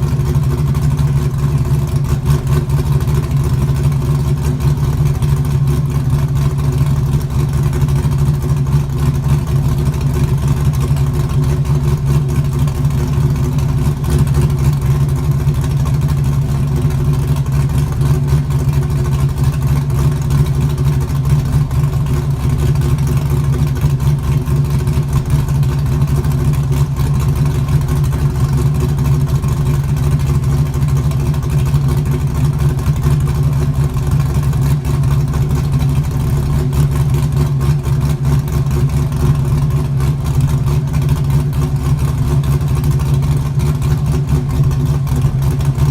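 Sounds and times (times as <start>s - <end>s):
loud car engine drone: 0.0s - 45.9s.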